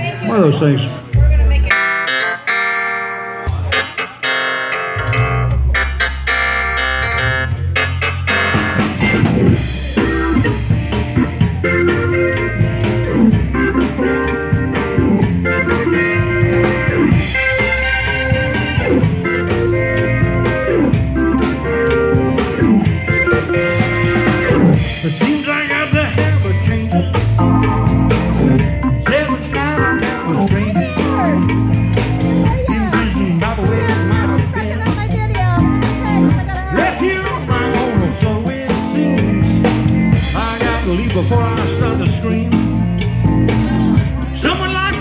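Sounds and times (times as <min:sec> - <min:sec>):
organ chords: 0:00.0 - 0:45.0
electric guitar: 0:01.1 - 0:45.0
drum kit beat: 0:01.2 - 0:45.0.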